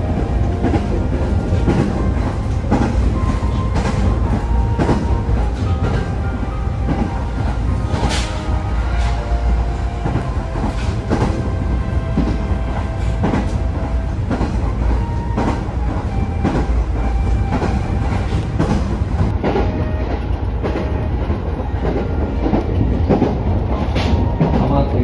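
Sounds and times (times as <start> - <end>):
train rumble: 0.0 - 25.0
wheels clacking over rail joints: 0.0 - 25.0.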